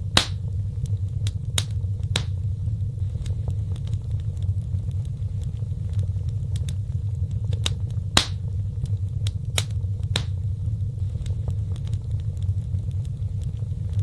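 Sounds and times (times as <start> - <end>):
burning wood crackling and popping: 0.0 - 14.0
flames rumbling: 0.0 - 14.0.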